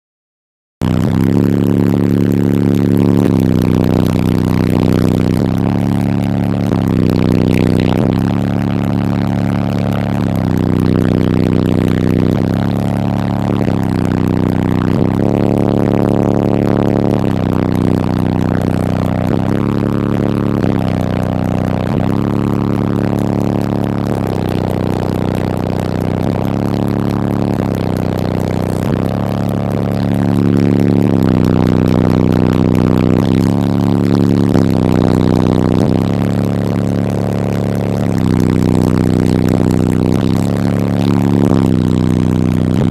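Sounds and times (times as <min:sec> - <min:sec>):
bass-heavy car audio music: 0:00.8 - 0:42.9.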